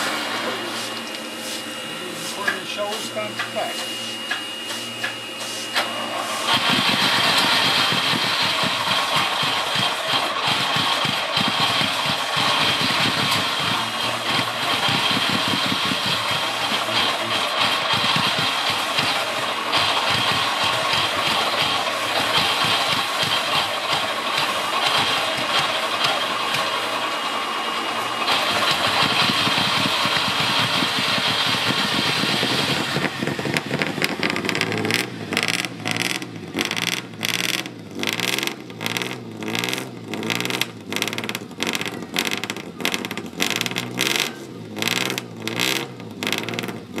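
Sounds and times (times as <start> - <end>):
car engine surging and coughing: 6.5 - 27.1, 28.3 - 47.0.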